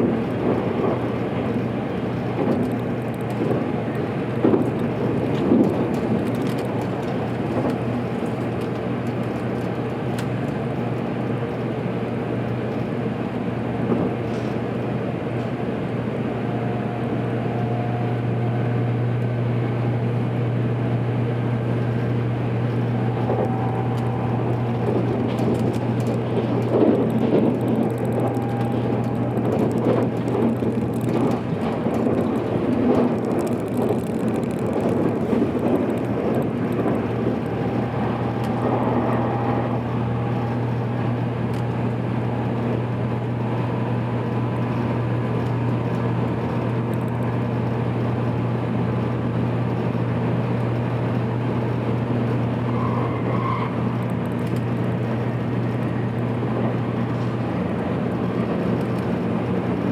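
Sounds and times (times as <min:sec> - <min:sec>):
train running hum: 0:00.0 - 0:59.9
wheel-on-rail rumble: 0:00.0 - 0:59.9.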